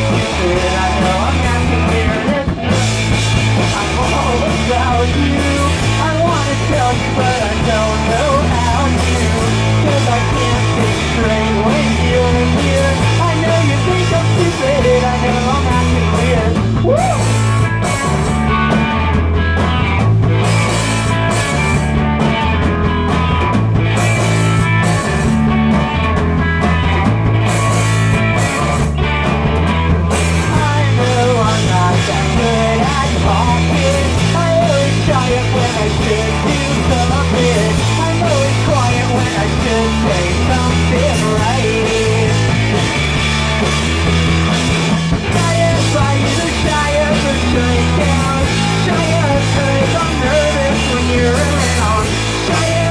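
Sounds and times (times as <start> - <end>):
bass line: 0.0 - 52.9
drums: 0.0 - 52.9
electric guitar lead: 0.0 - 52.9.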